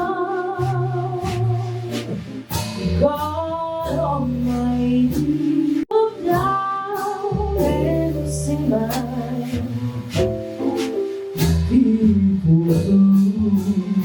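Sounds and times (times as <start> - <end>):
slow jazz ballad by small band: 0.0 - 14.0.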